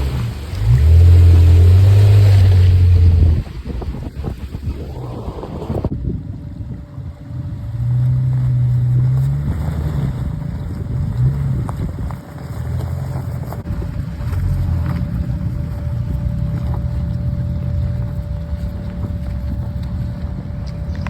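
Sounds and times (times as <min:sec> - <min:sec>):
car engine revving under load: 0:00.0 - 0:21.0
wind noise on microphone: 0:00.0 - 0:21.0.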